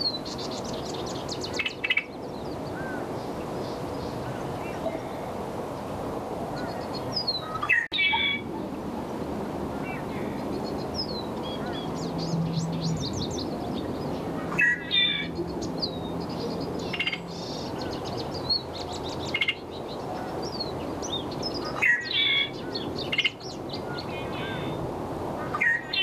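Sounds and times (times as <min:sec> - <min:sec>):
blackbird singing: 0:00.0 - 0:05.3, 0:06.6 - 0:08.5, 0:09.8 - 0:24.8, 0:25.5 - 0:26.0.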